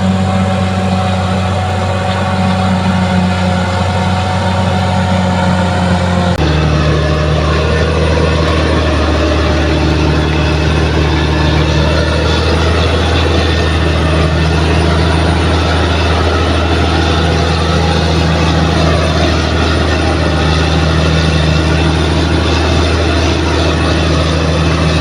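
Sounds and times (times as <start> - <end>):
bulldozer diesel engine droning: 0.0 - 25.0.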